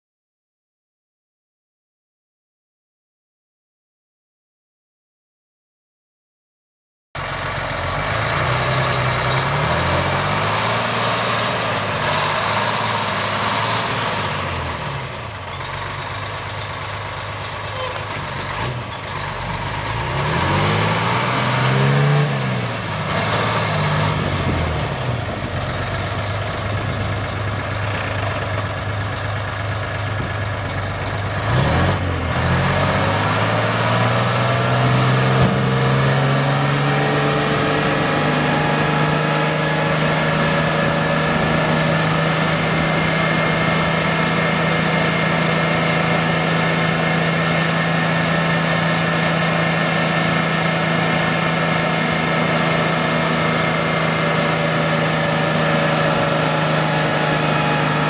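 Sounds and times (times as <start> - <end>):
diesel truck engine revving: 7.2 - 58.0.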